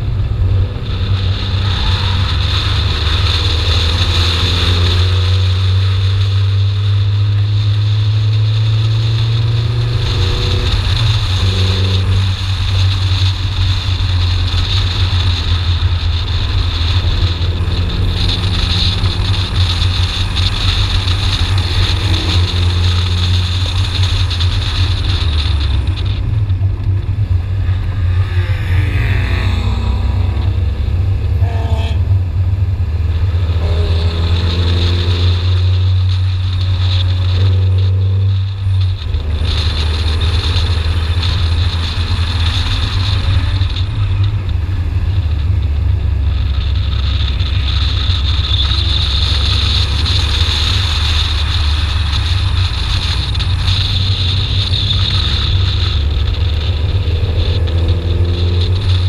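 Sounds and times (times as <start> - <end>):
car engine revving hard: 0.0 - 59.0
wind rumble on microphone: 0.0 - 59.0.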